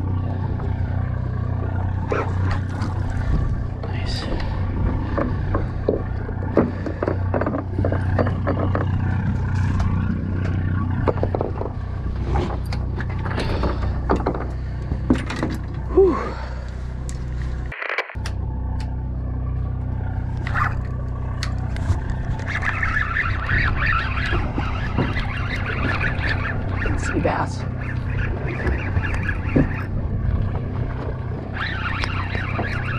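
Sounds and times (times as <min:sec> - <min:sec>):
boat engine humming: 0:00.0 - 0:32.9.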